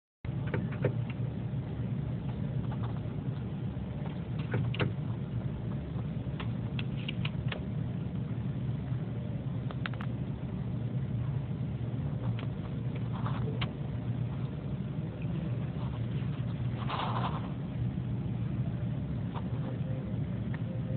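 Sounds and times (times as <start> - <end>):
low background rumble: 0.2 - 20.9.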